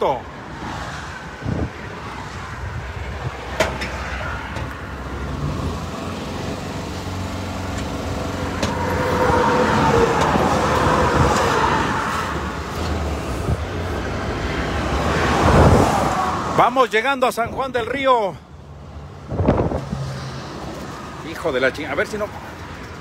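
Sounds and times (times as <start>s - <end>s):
van engine and road noise: 0.0s - 23.0s.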